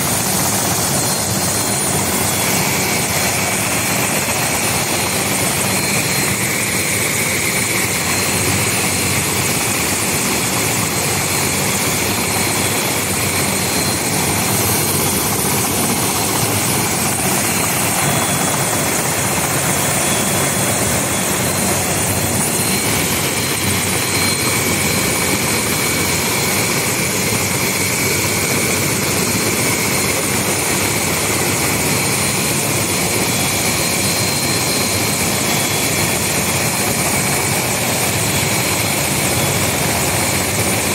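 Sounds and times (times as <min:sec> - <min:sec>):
helicopter engine whine: 0:00.0 - 0:40.9
helicopter rotor noise: 0:00.0 - 0:40.9.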